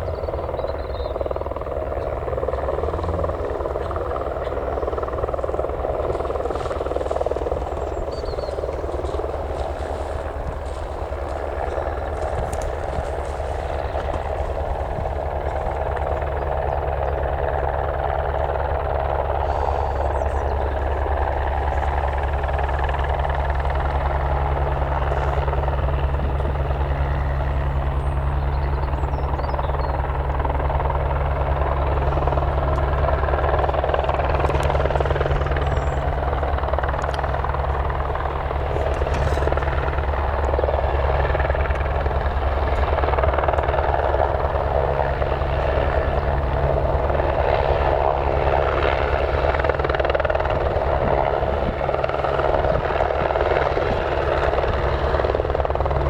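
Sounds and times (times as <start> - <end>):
helicopter rotor thrum: 0.0 - 56.0.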